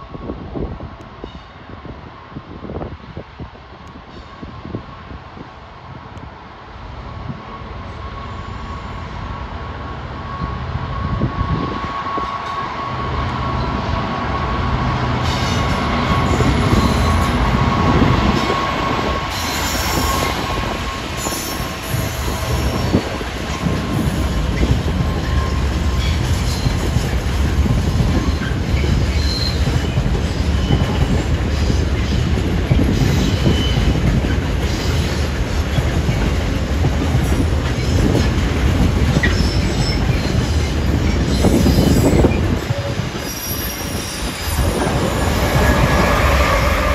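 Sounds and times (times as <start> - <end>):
diesel locomotive engines running: 3.4 - 46.9
train wheel squeal: 7.0 - 14.6, 15.2 - 46.9.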